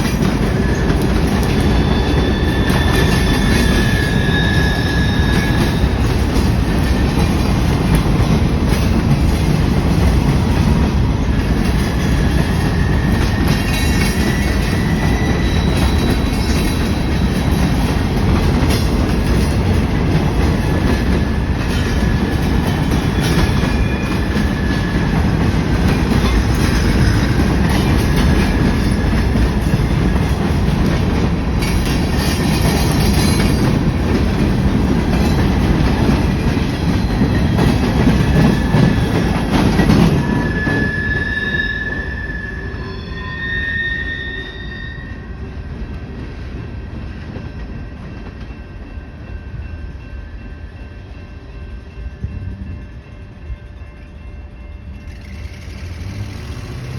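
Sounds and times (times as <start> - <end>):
train cars rumbling past: 0.0 - 56.9.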